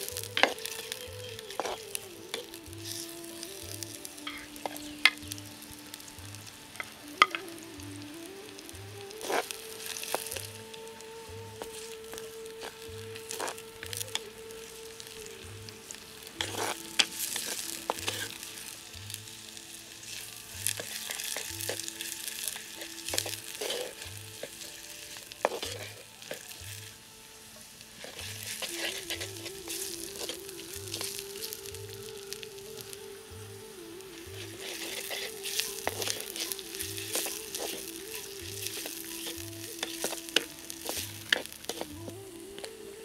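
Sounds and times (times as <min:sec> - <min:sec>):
vegetables sizzling in a pot: 0:00.0 - 0:43.0.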